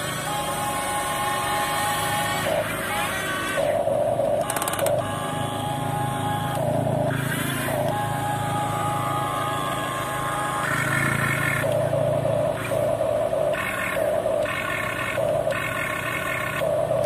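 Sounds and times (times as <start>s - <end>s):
electric gear motors whining: 0.0s - 17.0s.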